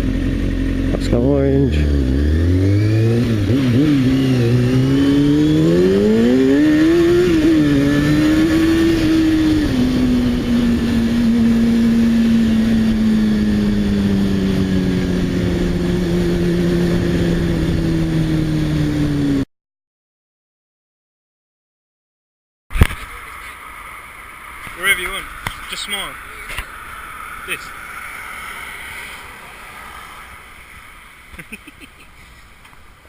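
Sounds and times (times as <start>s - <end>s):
motorcycle engine pulling away: 0.0s - 19.4s, 22.8s - 32.2s
wind and road noise: 0.0s - 19.4s, 22.7s - 33.0s.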